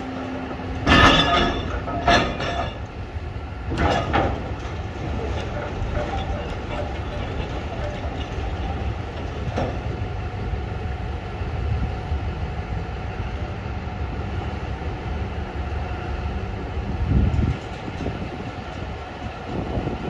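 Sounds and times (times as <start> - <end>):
machinery rumble: 0.0 - 20.0.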